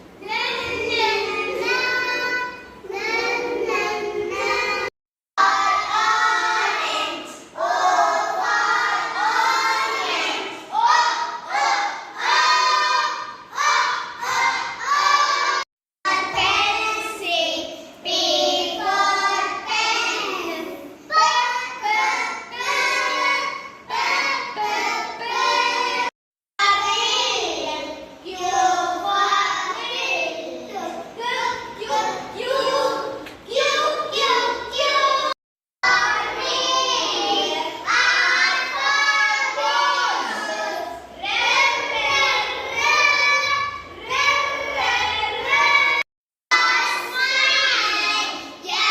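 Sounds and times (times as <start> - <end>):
young children singing: 0.0 - 48.9.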